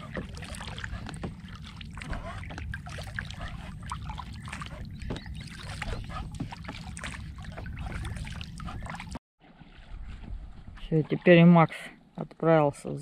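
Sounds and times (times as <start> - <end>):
water splashing and lapping: 0.0 - 12.4.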